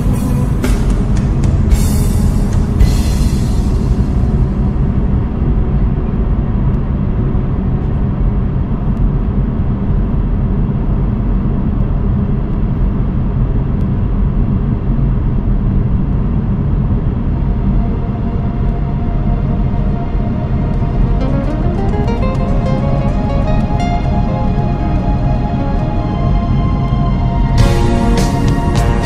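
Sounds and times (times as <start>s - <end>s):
car driving rumble: 0.0s - 29.0s.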